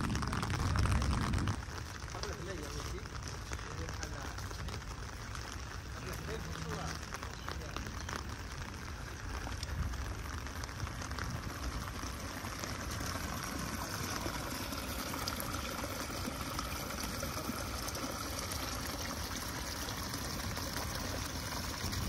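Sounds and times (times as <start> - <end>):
water rushing over gravel: 0.0 - 22.0
water splashing into pothole: 0.0 - 22.0.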